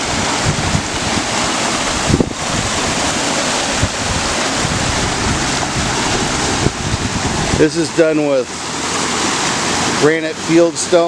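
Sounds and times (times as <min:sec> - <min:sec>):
wind buffeting microphone: 0:00.0 - 0:10.0
waterfall splashing over rocks: 0:00.0 - 0:11.0.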